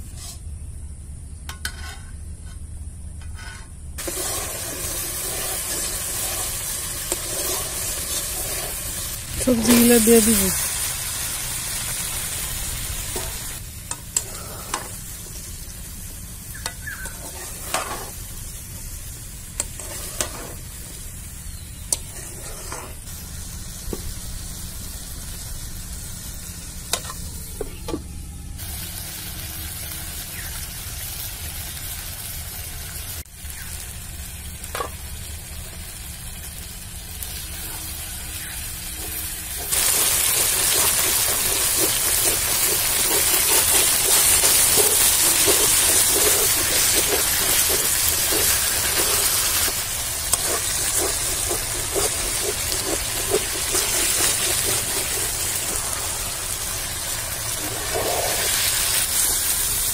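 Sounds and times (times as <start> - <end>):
vegetables sizzling in oil: 4.0 - 59.9.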